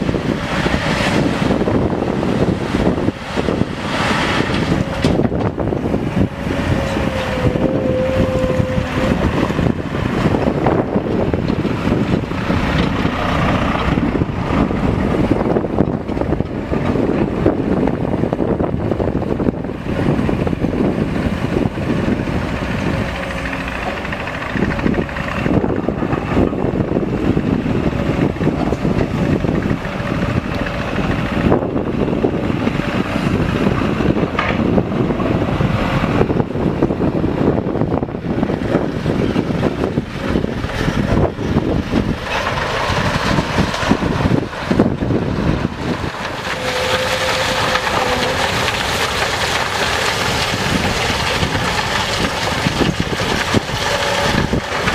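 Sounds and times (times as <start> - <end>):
heavy diesel machinery running: 0.0 - 54.9
wind buffeting microphone: 0.0 - 54.9.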